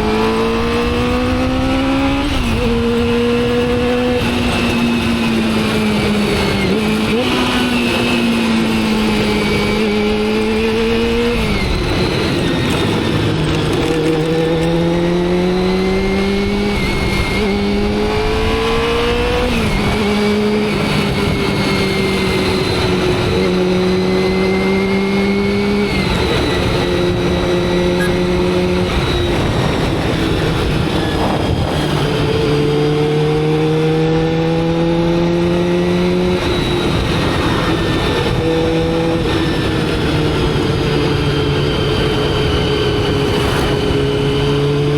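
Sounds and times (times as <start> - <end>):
motorcycle engine shifting gears: 0.0 - 44.9.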